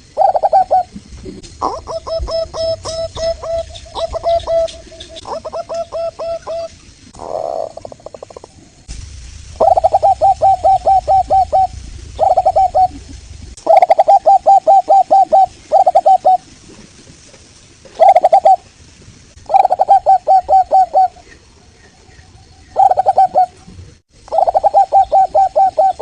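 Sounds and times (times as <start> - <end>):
dove cooing: 0.0 - 8.5, 9.6 - 16.7, 17.9 - 18.7, 19.5 - 21.4, 22.7 - 26.0.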